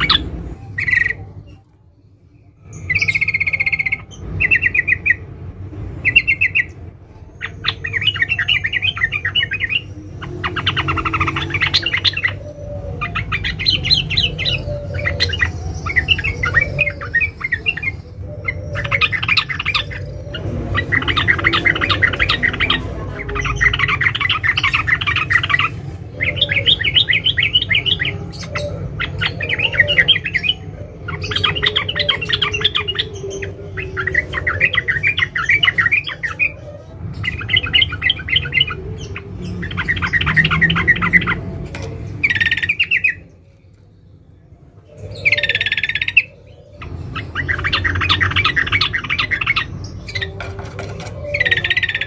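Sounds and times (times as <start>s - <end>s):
bird chattering: 0.0s - 1.6s, 2.6s - 5.3s, 6.0s - 52.0s
steady low hum: 0.0s - 51.8s.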